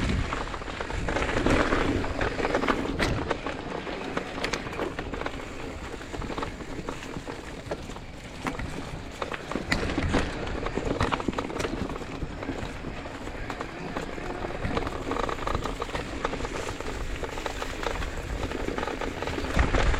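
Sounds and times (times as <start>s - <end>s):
bike clicks and rattles: 0.0s - 19.9s
bike tyres crunching over dirt: 0.0s - 19.9s
wind rumbling on microphone: 0.0s - 19.9s.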